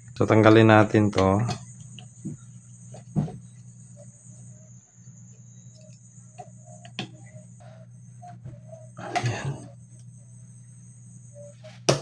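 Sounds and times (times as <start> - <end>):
crickets trilling: 0.0 - 12.0
low hum: 0.0 - 12.0.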